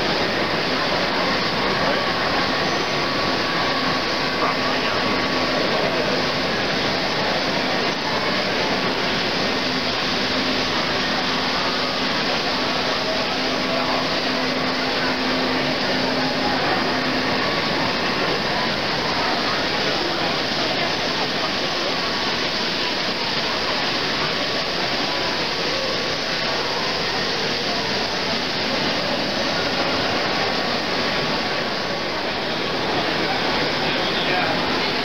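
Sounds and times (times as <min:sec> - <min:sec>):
indistinct crowd voices: 0:00.0 - 0:35.0.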